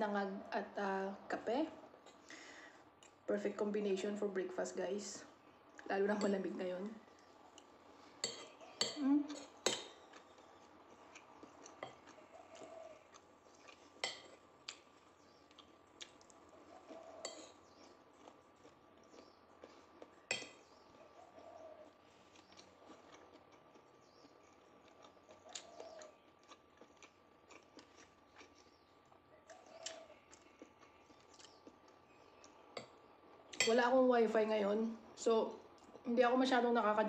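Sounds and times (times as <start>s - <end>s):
faint steady hum: 0.0s - 37.0s
quiet chewing: 2.0s - 3.3s, 5.7s - 33.8s, 35.6s - 36.1s.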